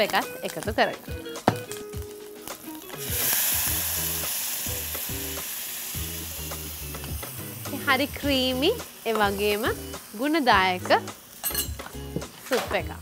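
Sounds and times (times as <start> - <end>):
soup sizzling in hot pan: 0.0 - 13.0.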